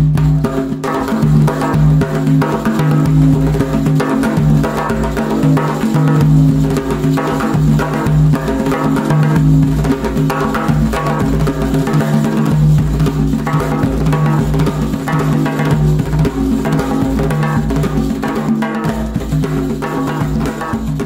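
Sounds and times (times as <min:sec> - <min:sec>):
quick drum strokes: 0:00.0 - 0:21.0.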